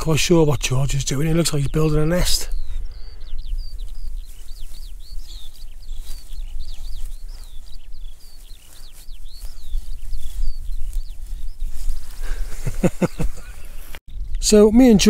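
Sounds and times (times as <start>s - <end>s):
songbird chirping and trilling: 0.0s - 15.0s
wind rumble on microphone: 0.9s - 15.0s.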